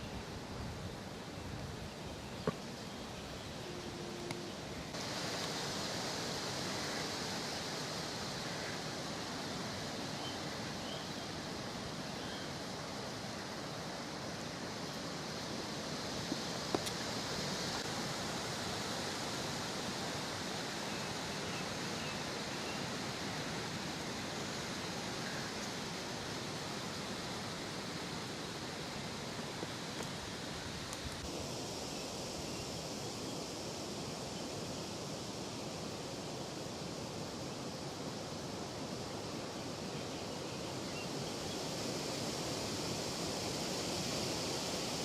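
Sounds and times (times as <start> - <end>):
steady hiss: 0.0 - 45.0.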